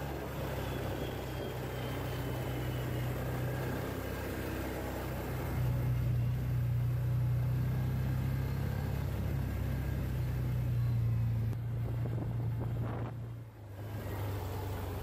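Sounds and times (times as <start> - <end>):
atv engine humming: 0.0 - 15.0.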